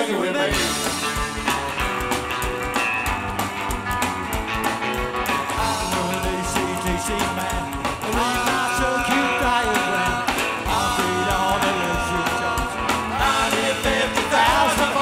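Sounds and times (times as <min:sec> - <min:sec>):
drums: 0:00.0 - 0:15.0
electric guitar: 0:00.2 - 0:15.0
upright double bass: 0:00.5 - 0:15.0.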